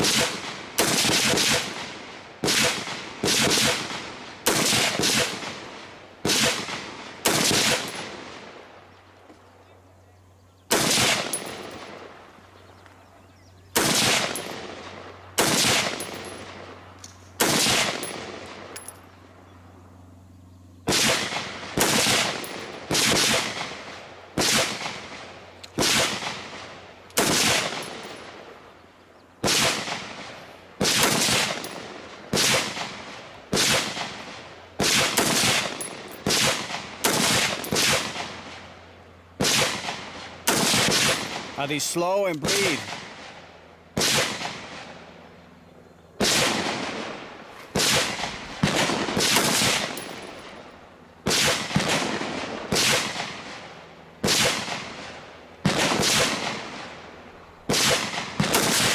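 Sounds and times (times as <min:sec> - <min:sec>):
gunshots: 0:00.0 - 0:08.6, 0:10.7 - 0:12.3, 0:13.7 - 0:16.8, 0:17.4 - 0:18.9, 0:20.8 - 0:28.5, 0:29.4 - 0:38.7, 0:39.4 - 0:45.0, 0:46.2 - 0:50.6, 0:51.2 - 0:57.0, 0:57.6 - 0:58.9.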